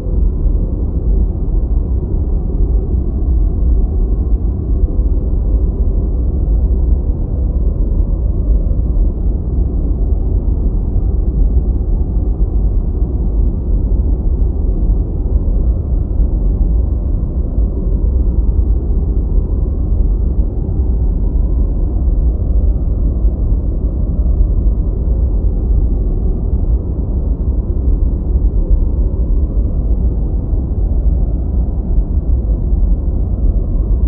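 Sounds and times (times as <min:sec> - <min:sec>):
deep white noise rumble: 0:00.0 - 0:34.0.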